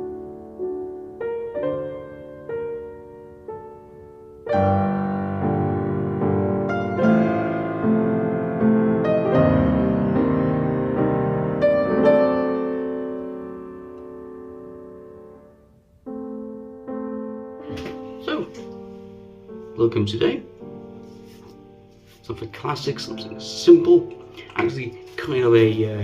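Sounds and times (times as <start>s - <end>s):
piano chords: 0.0s - 26.0s.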